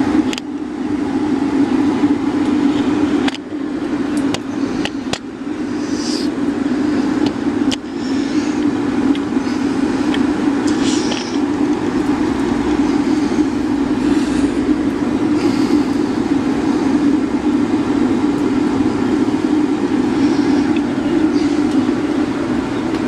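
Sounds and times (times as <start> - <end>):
air blower humming: 0.0 - 23.0
fire rushing in burner: 0.0 - 23.0.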